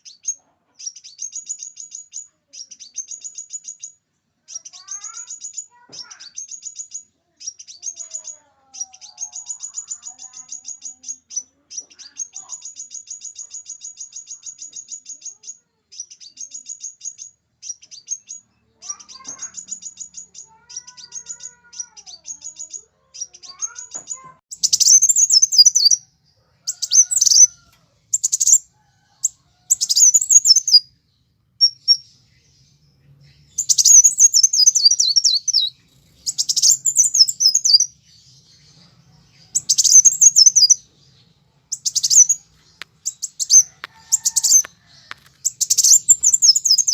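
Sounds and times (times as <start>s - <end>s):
birds singing high notes: 4.5s - 31.0s, 31.6s - 46.9s.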